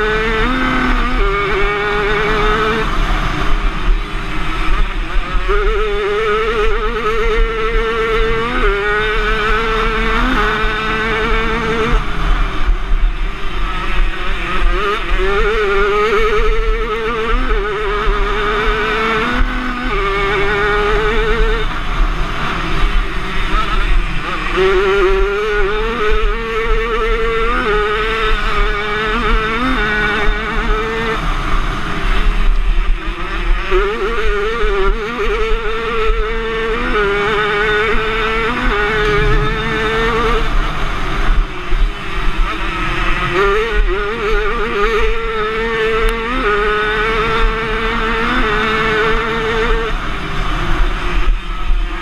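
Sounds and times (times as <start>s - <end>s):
motorcycle engine racing: 0.0s - 52.0s.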